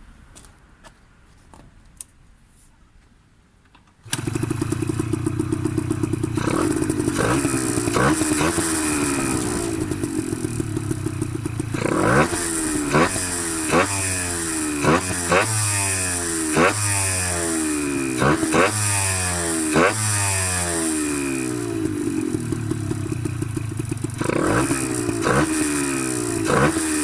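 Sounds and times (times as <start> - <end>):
two-stroke engine revving: 4.0 - 27.0.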